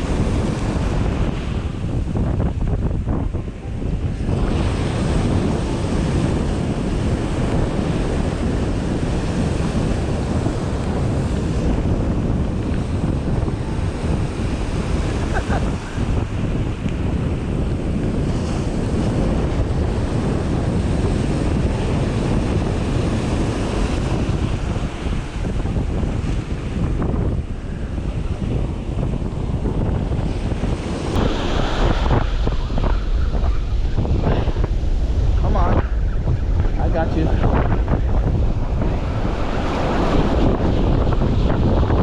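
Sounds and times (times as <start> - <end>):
ocean surf washing on beach: 0.0 - 42.0
wind buffeting microphone: 0.0 - 42.0.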